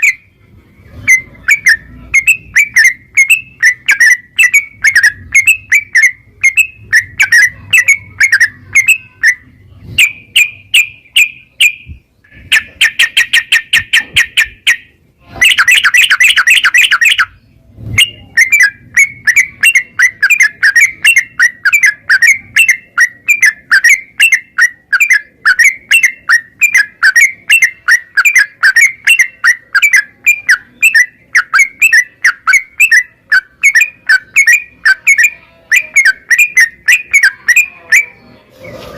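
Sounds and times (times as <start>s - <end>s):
bird fast trills: 0.0s - 0.3s, 1.0s - 38.3s
bulbul singing: 0.0s - 0.4s, 1.0s - 38.4s.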